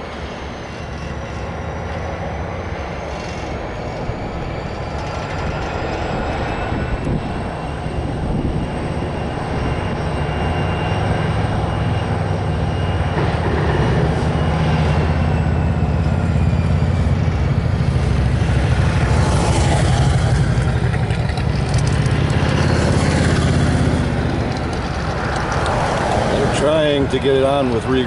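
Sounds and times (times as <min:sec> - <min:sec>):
high engine whine: 0:00.0 - 0:28.0
locomotive engine rumbling: 0:00.0 - 0:28.0.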